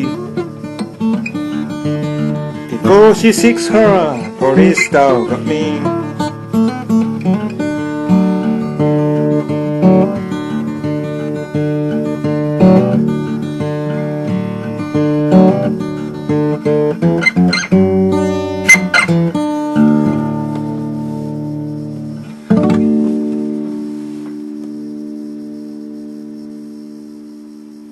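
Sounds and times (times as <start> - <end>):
fingerpicked blues acoustic guitar: 0.0 - 27.9.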